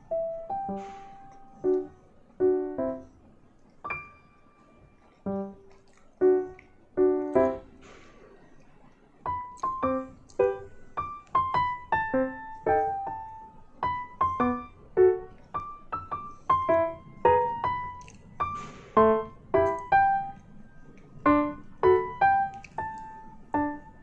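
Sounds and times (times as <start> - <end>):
light keyboard melody: 0.0 - 7.9, 9.2 - 24.0.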